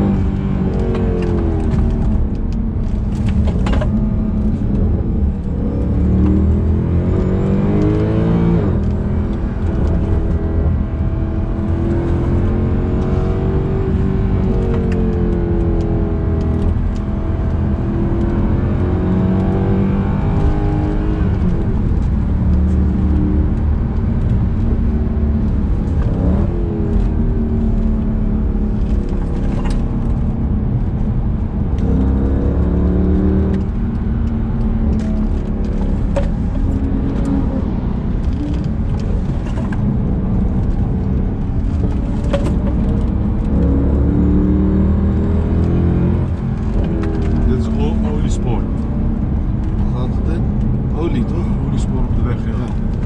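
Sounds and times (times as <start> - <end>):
car engine accelerating hard: 0.0 - 53.0.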